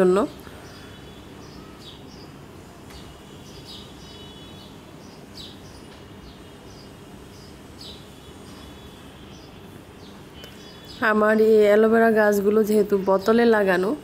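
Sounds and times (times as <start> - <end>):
low background noise: 0.0 - 14.0
small birds chirping: 0.0 - 14.0.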